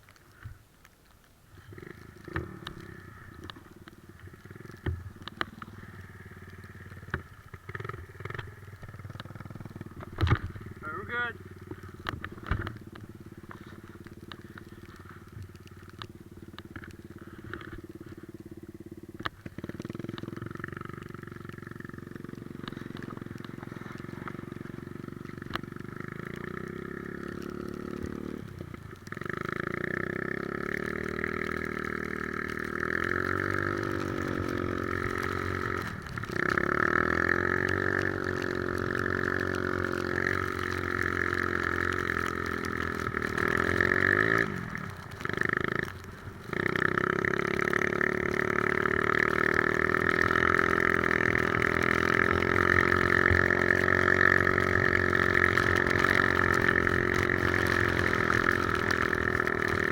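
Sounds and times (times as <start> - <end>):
atv engine running: 1.5 - 59.9.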